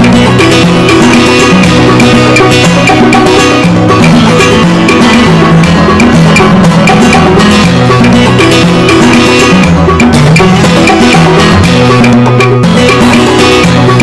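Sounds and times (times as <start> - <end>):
music with drum beat and bass: 0.0 - 14.0.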